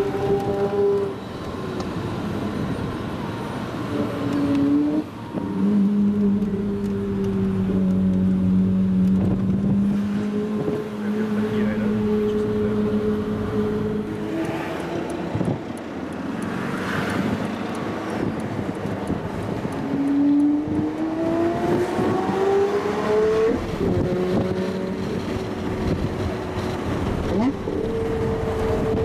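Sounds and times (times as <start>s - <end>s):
sports car engine accelerating: 4.0s - 29.0s.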